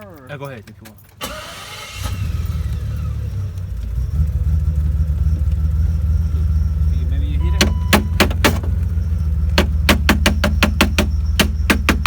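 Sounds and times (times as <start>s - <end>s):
car engine rumbling: 0.6s - 12.0s.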